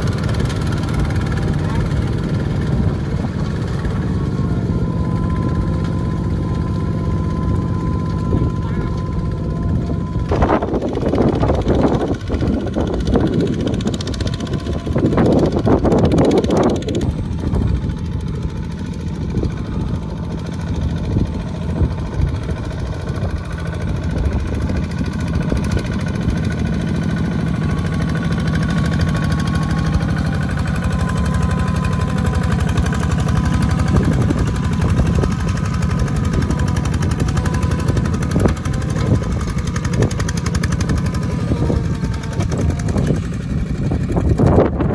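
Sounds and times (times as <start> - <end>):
tractor diesel engine chugging: 0.0 - 44.9.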